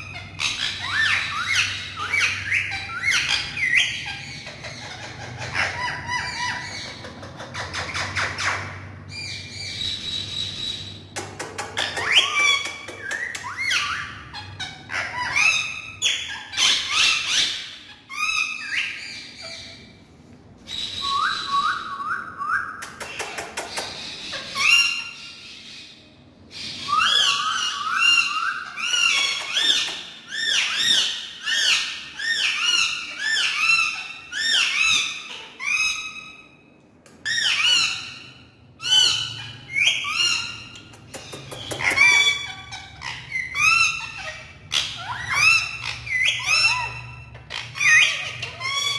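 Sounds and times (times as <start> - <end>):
parrots squawking and whistling: 0.0 - 48.9.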